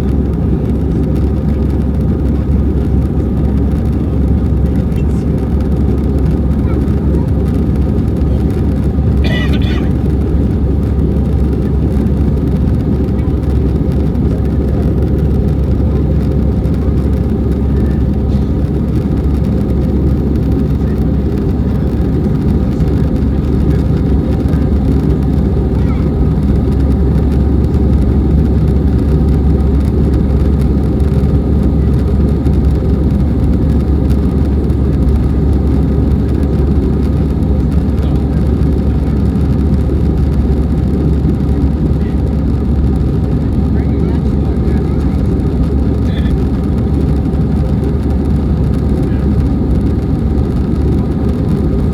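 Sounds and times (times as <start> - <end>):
jet engine cabin rumble: 0.0 - 51.9.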